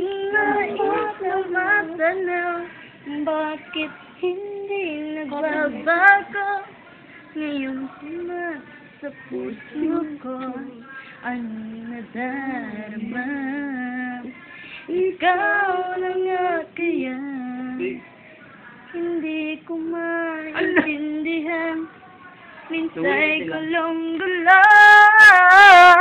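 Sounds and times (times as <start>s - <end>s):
woman singing: 0.0s - 18.1s, 18.7s - 26.0s.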